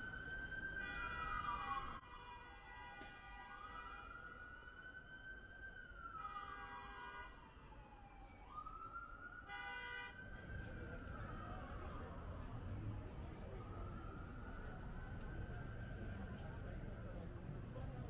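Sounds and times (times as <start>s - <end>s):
emergency vehicle siren wailing: 0.0s - 18.0s.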